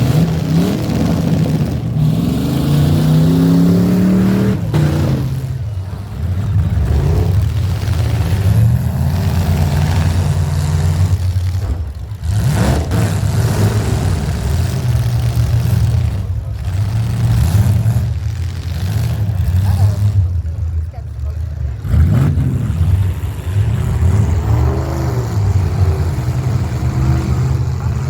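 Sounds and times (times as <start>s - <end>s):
car engines running and revving: 0.0s - 28.0s.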